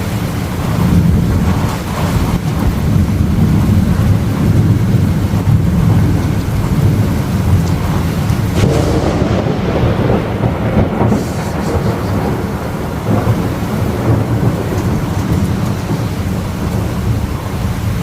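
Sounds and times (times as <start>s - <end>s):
thunder rumbling: 0.0s - 18.0s.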